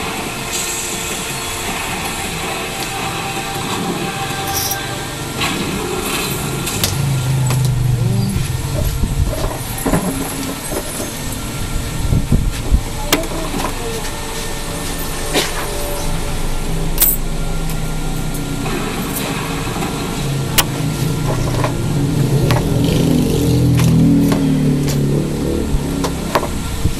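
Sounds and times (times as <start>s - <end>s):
engine running low rumble: 4.7s - 26.9s.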